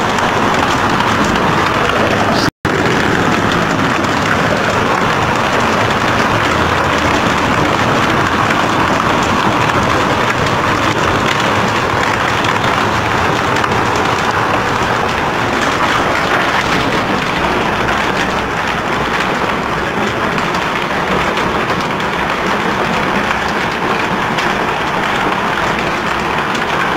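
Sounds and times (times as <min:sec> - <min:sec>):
hail and rain pattering: 0:00.0 - 0:26.9
running water: 0:00.0 - 0:26.9.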